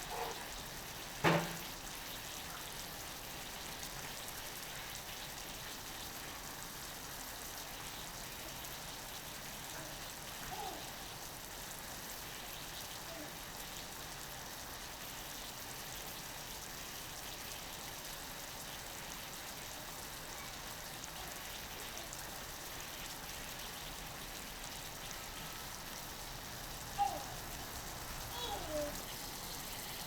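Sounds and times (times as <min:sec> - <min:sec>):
steak sizzling on a griddle: 0:00.0 - 0:30.0.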